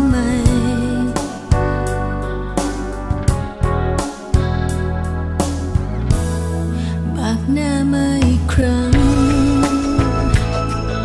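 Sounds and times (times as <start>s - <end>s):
keyboard chords: 0.0s - 11.0s
steady bass: 0.0s - 11.0s.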